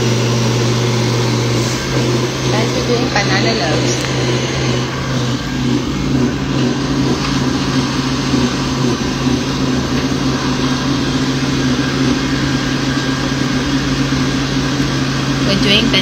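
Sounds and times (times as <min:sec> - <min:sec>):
electric mixer motor running: 0:00.0 - 0:16.0.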